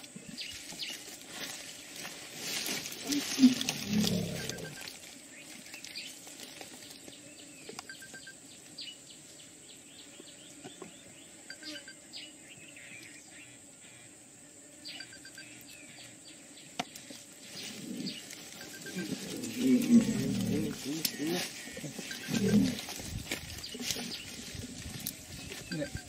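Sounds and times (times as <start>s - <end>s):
small birds chirping: 0.0s - 14.1s, 14.8s - 26.0s
insects droning: 0.0s - 26.0s.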